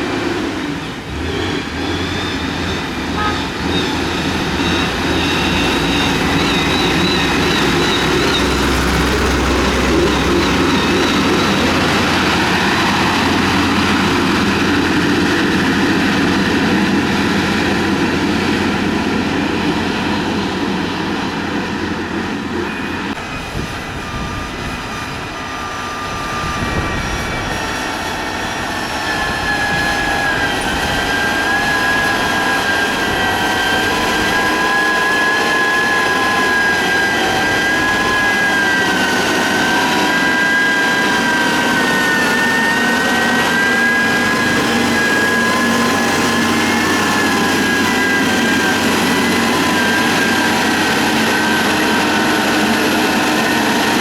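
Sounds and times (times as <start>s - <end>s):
diesel engine running: 0.0s - 54.0s
high whine: 0.0s - 54.0s.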